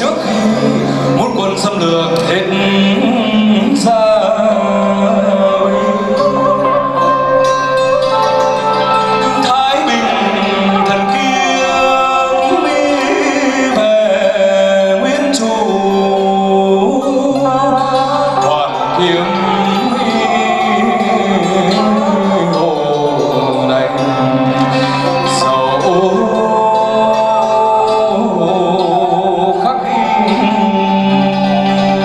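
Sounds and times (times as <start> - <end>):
person singing: 0.0 - 32.0
traditional instruments playing: 0.0 - 32.0.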